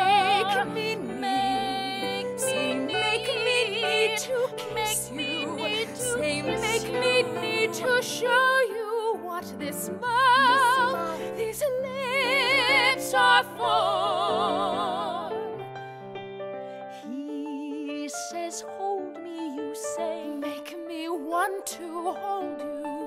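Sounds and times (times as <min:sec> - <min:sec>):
women singing with vibrato: 0:00.0 - 0:15.6, 0:16.9 - 0:23.0
piano accompaniment: 0:00.0 - 0:23.0.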